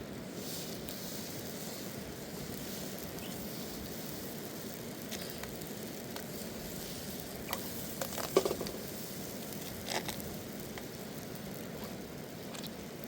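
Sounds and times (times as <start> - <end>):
steady hiss with crackles: 0.0 - 13.0.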